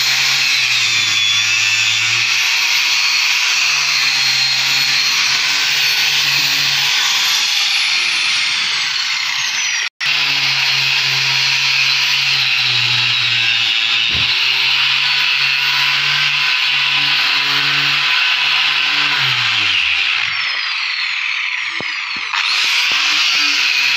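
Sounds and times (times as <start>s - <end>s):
electric disc sander on wood: 0.0s - 23.9s.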